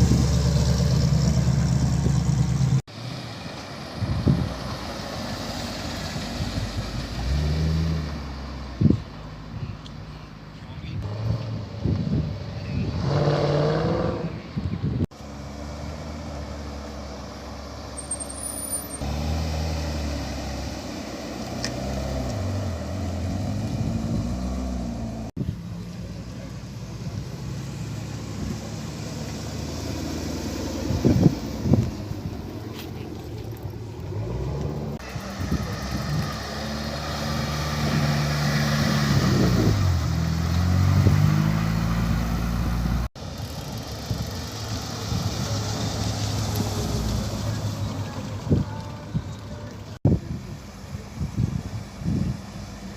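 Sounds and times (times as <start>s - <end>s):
car engines revving: 0.0s - 52.9s.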